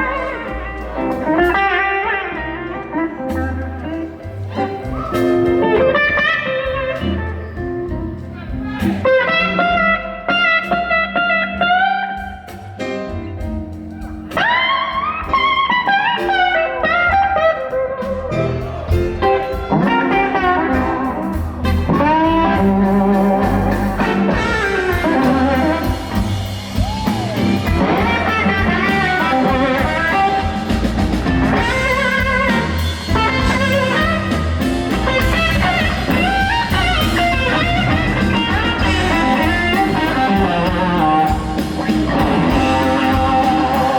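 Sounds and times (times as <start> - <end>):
electric guitar solo: 0.0 - 12.4, 13.3 - 43.9
blues band playing: 0.0 - 43.9.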